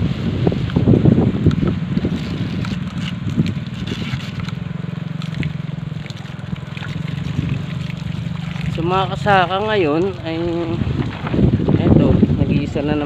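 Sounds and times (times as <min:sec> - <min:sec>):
low motor-like hum: 0:00.0 - 0:12.4
wind buffeting microphone: 0:00.0 - 0:13.0.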